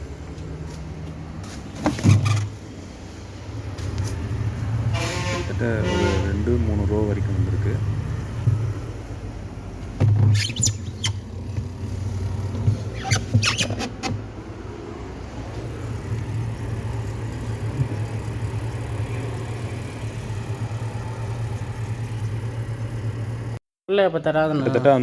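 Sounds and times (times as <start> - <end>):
fridge compressor humming: 0.0 - 23.6.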